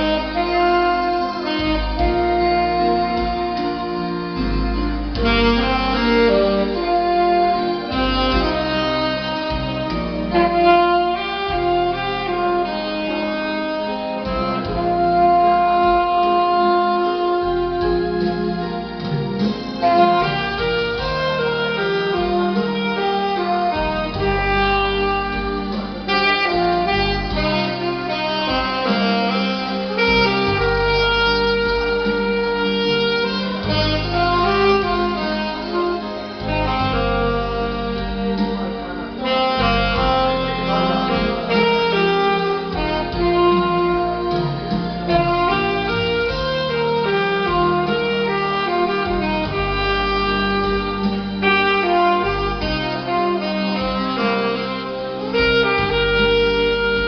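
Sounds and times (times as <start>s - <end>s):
bass line: 0.0s - 57.0s
saxophone slow melody: 0.0s - 57.0s.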